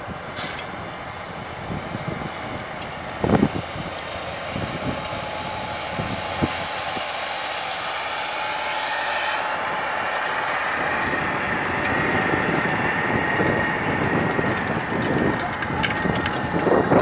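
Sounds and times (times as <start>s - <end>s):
tractor diesel engine under load: 0.0s - 17.0s
steady high whine: 2.9s - 17.0s.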